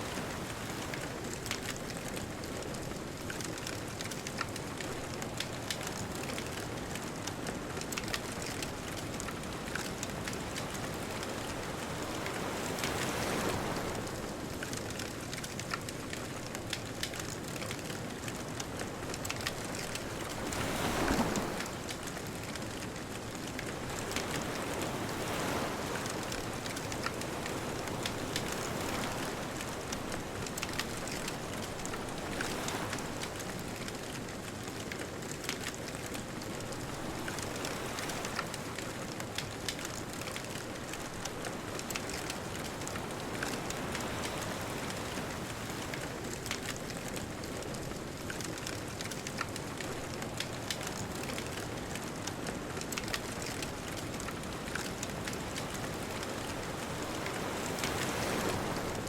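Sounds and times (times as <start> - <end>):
distant ocean waves breaking: 0.0 - 59.0
wood bonfire crackling: 0.1 - 59.0.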